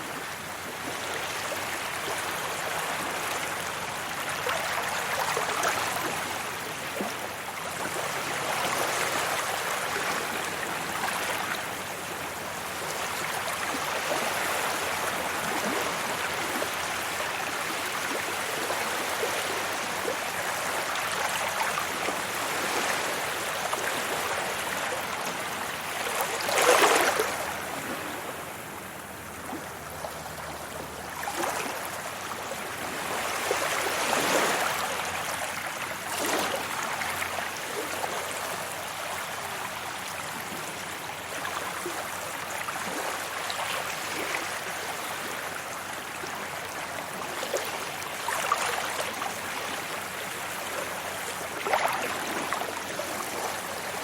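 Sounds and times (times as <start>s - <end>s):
sea waves washing on beach: 0.0s - 54.0s.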